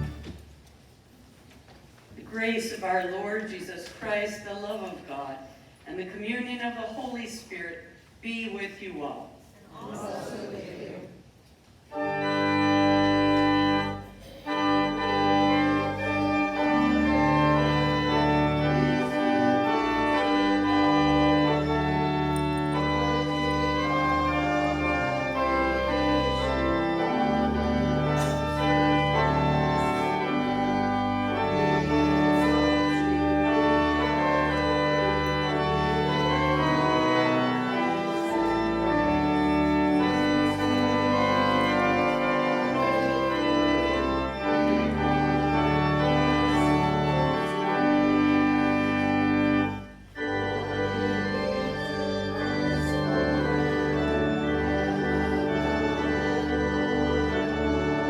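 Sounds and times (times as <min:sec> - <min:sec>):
church organ playing chords: 0:00.0 - 0:00.5, 0:11.9 - 0:58.0.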